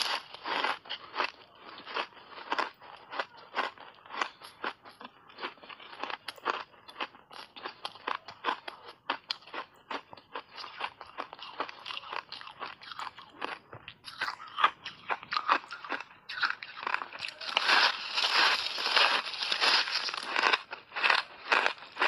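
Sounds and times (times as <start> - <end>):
ice crunching in mouth: 0.0 - 22.0.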